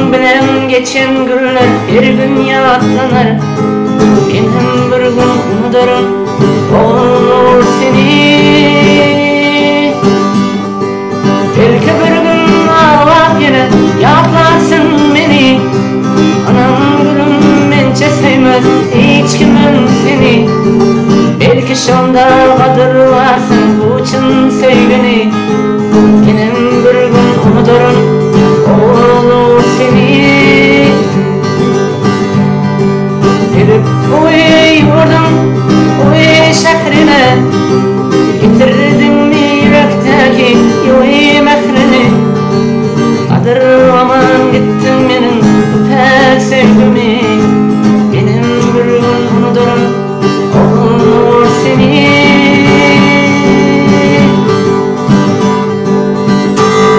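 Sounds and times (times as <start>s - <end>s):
acoustic guitar playing: 0.0s - 56.9s.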